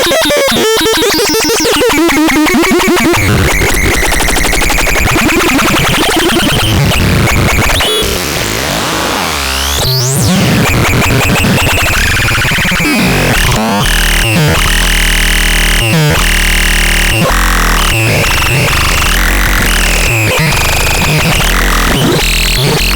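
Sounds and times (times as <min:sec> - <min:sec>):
harsh synthesizer music: 0:00.0 - 0:22.9.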